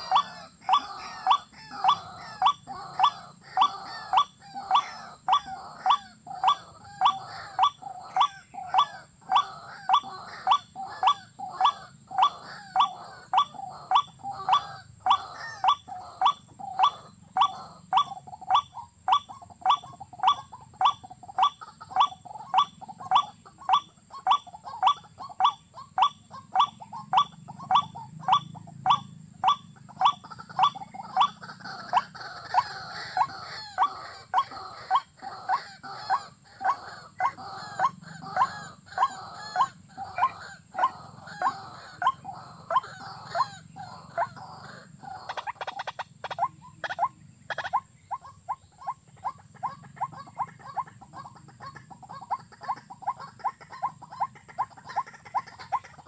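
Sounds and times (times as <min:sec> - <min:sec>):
watercock calling: 0:00.0 - 0:56.0.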